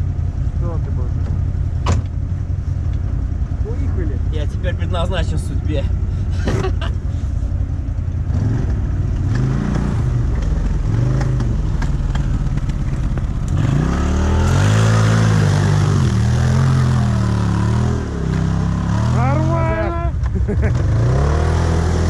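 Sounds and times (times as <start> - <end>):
off-road vehicle engine revving: 3.4 - 22.0.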